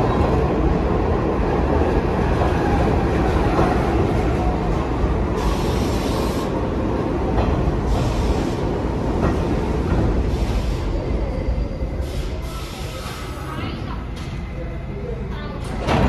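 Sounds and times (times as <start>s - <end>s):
train wheels on rail: 0.0s - 14.5s.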